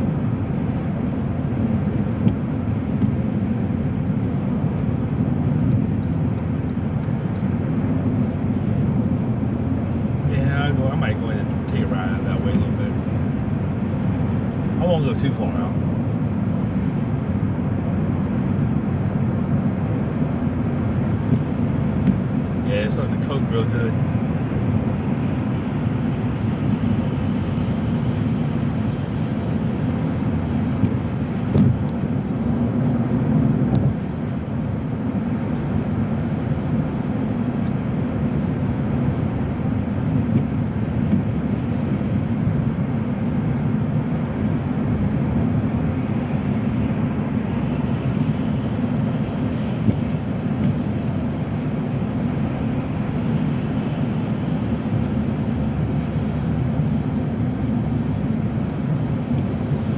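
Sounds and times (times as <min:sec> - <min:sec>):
car interior road noise: 0:00.0 - 0:59.9.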